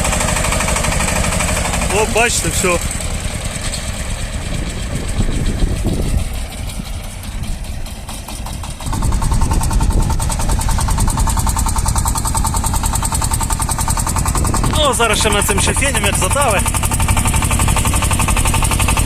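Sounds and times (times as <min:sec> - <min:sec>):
diesel engine chugging: 0:00.0 - 0:19.0
steady whine: 0:00.9 - 0:19.0.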